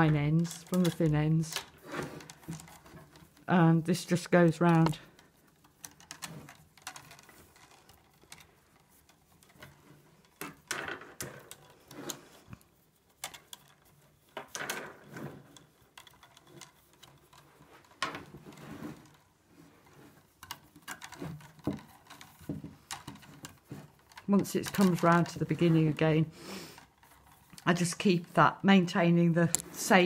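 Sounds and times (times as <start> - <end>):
willow rods rustling and clicking: 0.0 - 30.0.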